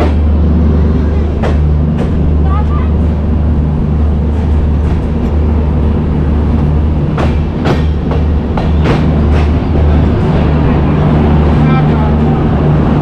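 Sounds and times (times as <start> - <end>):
passenger train rumbling: 0.0 - 13.0.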